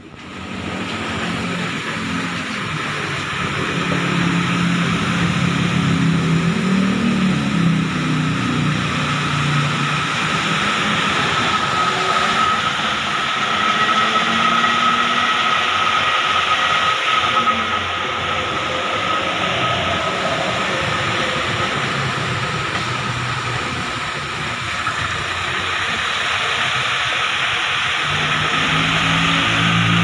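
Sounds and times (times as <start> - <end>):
drivetrain whine: 0.0 - 30.0.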